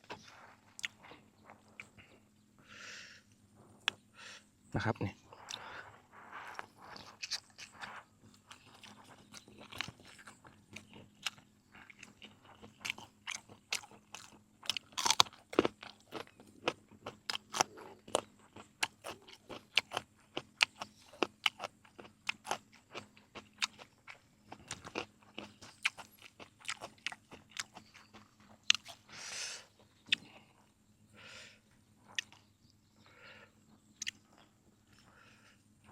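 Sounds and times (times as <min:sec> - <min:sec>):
person chewing crunchy food: 0:00.0 - 0:02.4, 0:05.3 - 0:31.3, 0:32.0 - 0:35.9.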